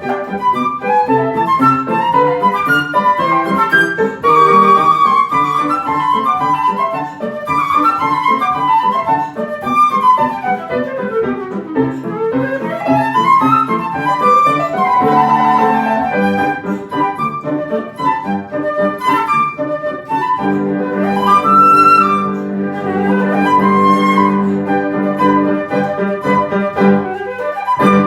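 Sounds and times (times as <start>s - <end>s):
flute playing fast runs: 0.0s - 28.0s
piano accompaniment: 0.0s - 28.0s.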